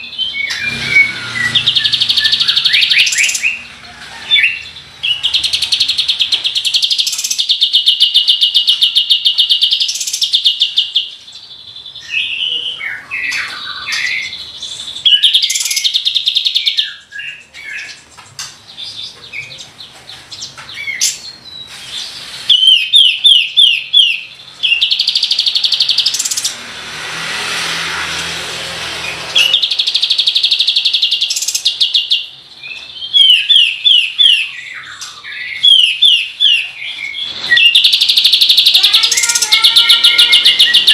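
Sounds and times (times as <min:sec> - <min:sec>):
bird singing rapid trills: 0:00.0 - 0:26.6, 0:29.0 - 0:40.9.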